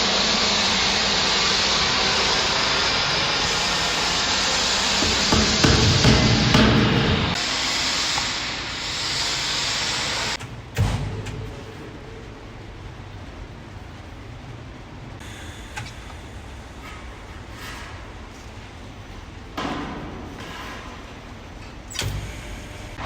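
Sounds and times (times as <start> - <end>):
welding arc hum and hiss: 0.0 - 23.0.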